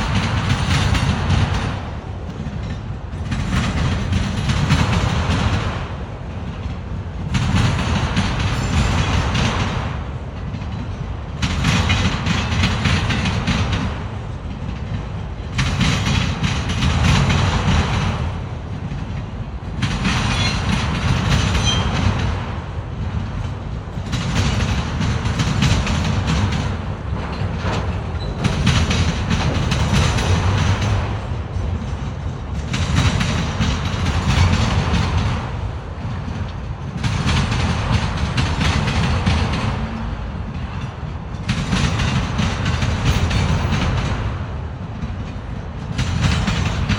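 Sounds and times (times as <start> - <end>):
freight train rumbling: 0.0 - 46.9
wheels on rails: 0.0 - 46.9.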